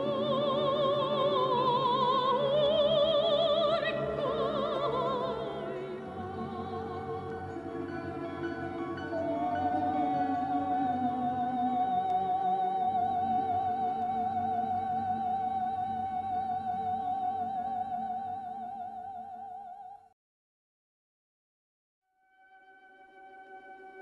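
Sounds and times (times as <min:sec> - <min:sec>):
soft musical accompaniment: 0:00.0 - 0:19.8, 0:22.2 - 0:24.0.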